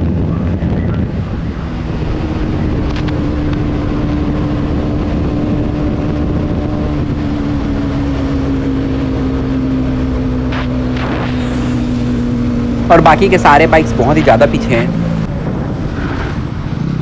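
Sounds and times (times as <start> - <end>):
motorcycle engine at high speed: 0.0 - 17.0.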